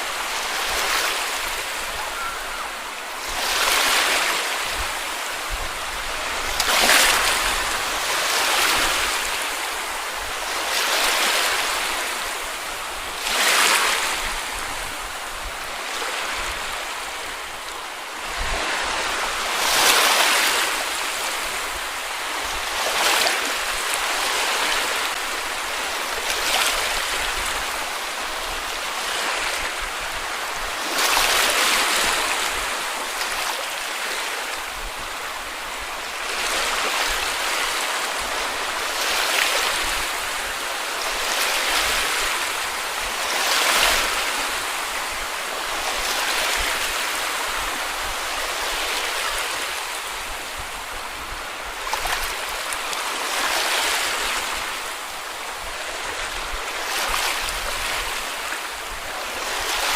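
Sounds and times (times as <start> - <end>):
small sea waves breaking on beach: 0.0 - 59.9.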